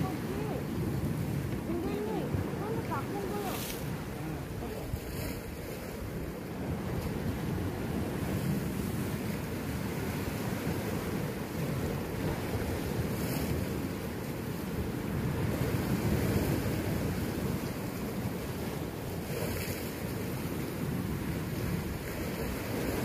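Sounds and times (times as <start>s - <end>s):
waves breaking on rocks: 0.0s - 23.0s
wind on microphone: 0.0s - 23.0s.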